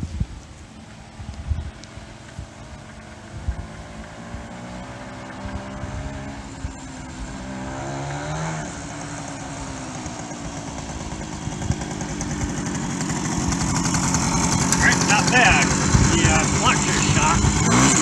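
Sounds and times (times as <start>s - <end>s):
motorcycle engine revving: 2.0s - 18.0s.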